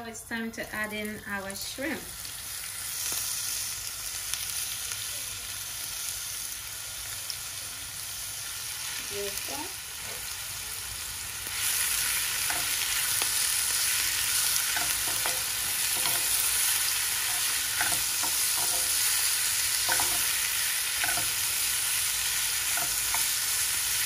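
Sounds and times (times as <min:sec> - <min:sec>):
shrimp sizzling in hot oil: 0:00.5 - 0:24.0.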